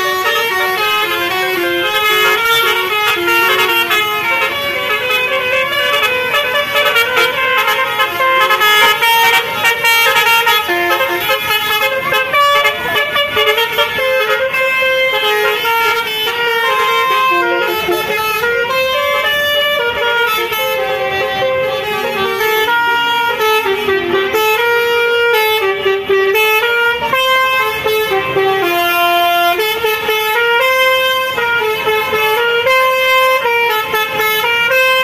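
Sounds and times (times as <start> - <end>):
musical air horn tune: 0.0 - 35.0.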